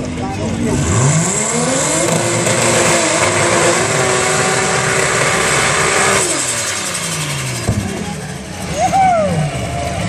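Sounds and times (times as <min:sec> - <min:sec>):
car engine at high revs: 0:00.0 - 0:10.0.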